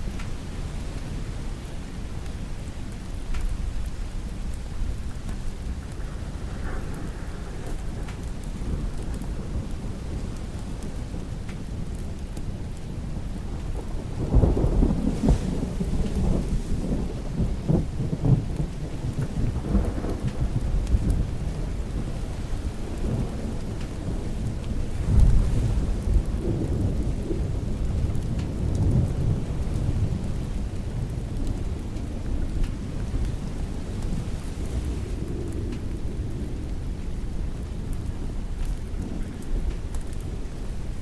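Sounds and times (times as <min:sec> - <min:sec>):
steady rain: 0:00.0 - 0:41.0
rolling thunder: 0:04.8 - 0:41.0.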